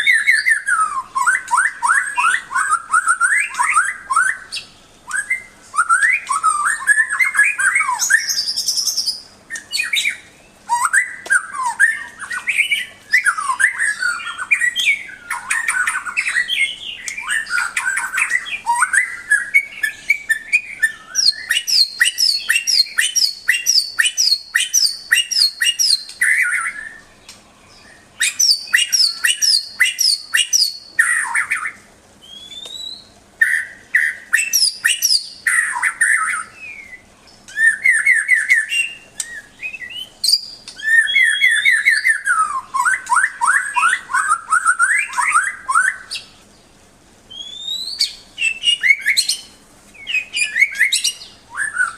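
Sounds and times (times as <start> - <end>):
bird singing varied song: 0.0 - 51.9.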